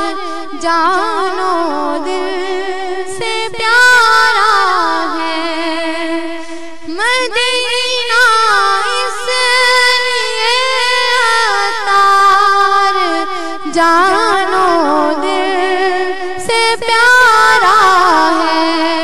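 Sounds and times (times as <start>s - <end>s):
person singing unaccompanied: 0.0s - 19.0s.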